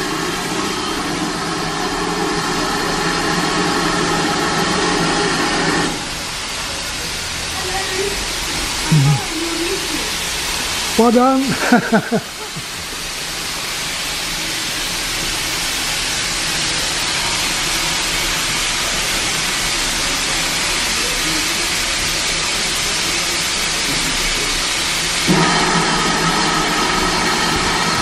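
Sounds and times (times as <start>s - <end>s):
loud hiss of escaping steam: 0.0s - 28.0s.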